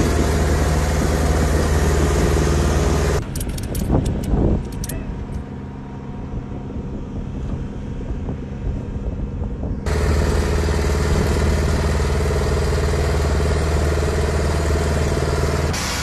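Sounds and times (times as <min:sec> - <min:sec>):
hissy engine noise: 0:00.0 - 0:04.6, 0:05.2 - 0:16.0
engine humming: 0:00.0 - 0:16.0.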